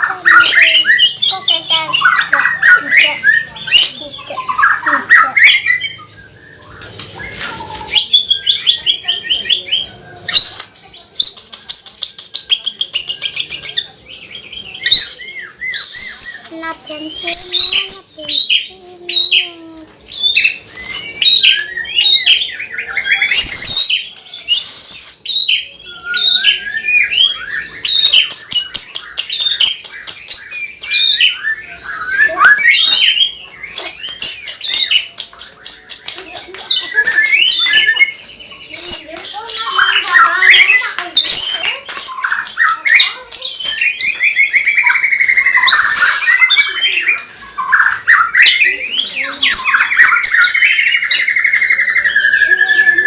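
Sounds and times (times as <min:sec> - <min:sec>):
bird singing whistled phrases: 0:00.0 - 0:19.4, 0:20.2 - 0:53.0.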